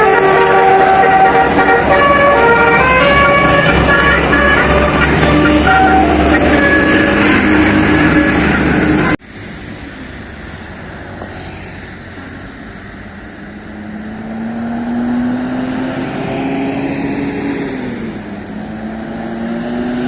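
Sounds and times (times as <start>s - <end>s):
bus engine pulling away: 0.0s - 20.0s.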